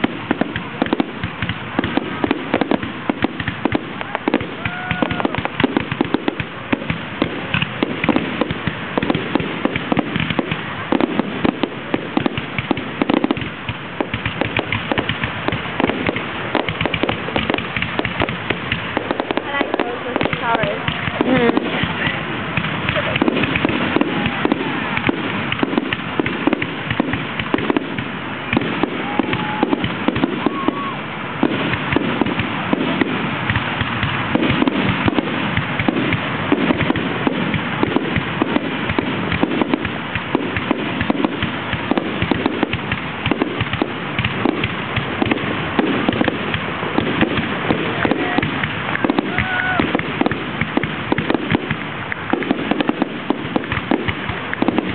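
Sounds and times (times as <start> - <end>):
fireworks bangs and crackling: 0.0 - 54.9.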